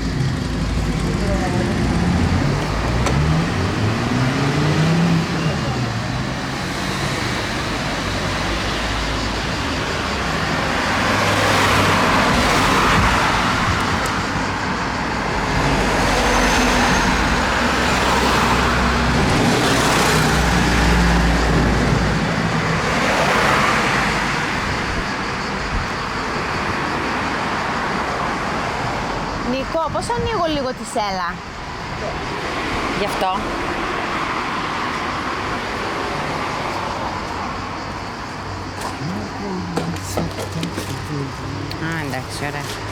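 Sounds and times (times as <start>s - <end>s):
vehicles passing: 0.0s - 42.9s.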